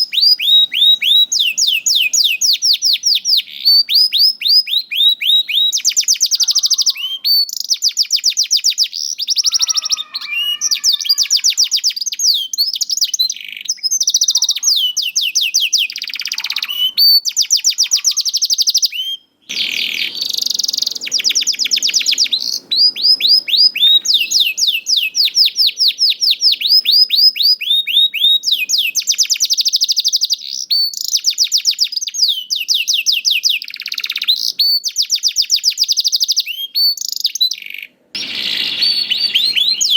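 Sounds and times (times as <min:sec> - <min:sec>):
canary singing in fast trills: 0:00.0 - 0:39.9.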